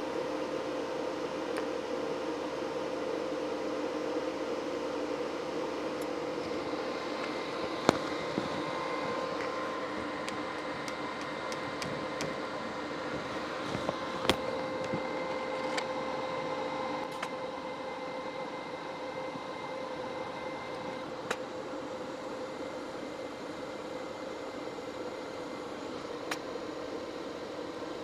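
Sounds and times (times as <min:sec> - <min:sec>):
welding machine fan humming: 0:00.0 - 0:28.0.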